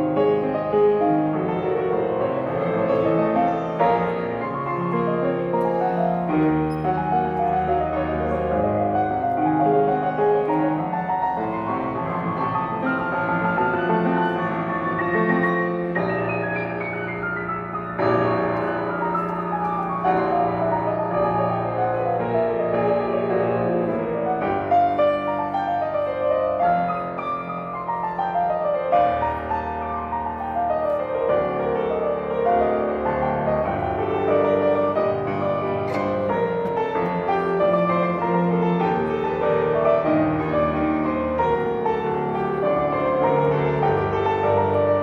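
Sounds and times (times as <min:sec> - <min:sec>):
grand piano playing: 0:00.0 - 0:45.0.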